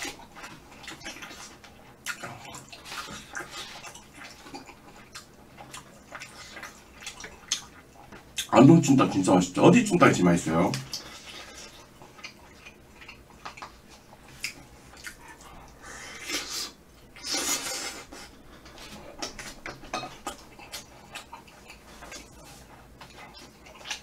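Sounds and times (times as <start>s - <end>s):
wet chewing: 0.0s - 8.6s, 10.7s - 24.0s.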